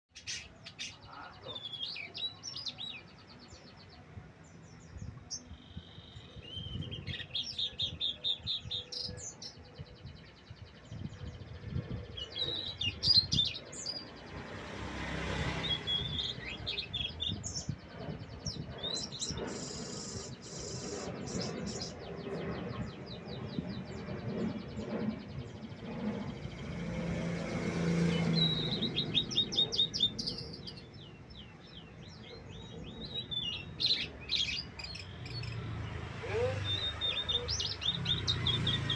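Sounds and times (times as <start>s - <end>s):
bird chirps and trills: 0.1s - 38.9s.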